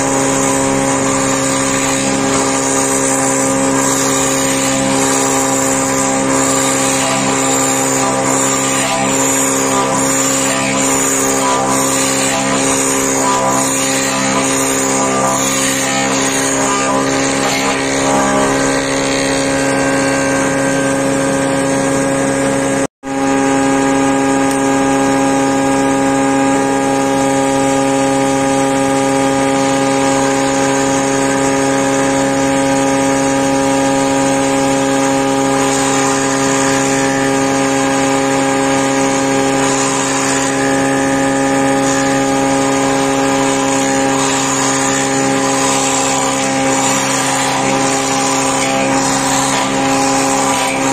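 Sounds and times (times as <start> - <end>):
wood boring machine humming: 0.0 - 50.9.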